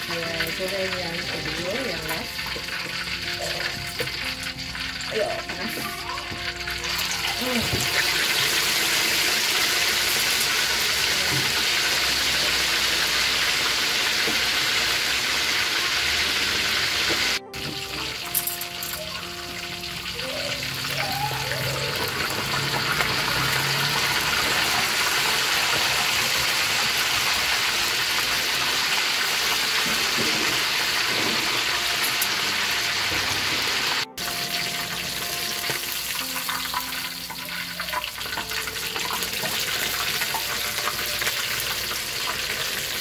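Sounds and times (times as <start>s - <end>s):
meat deep-frying in hot oil: 0.0s - 43.0s.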